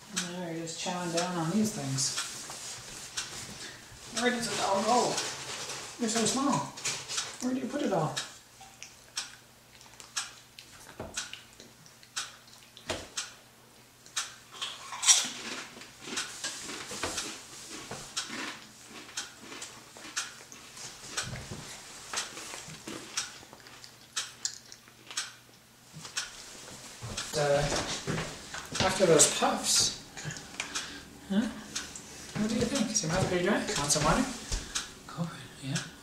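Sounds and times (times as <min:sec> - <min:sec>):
faint electrical hum: 0:00.0 - 0:36.0.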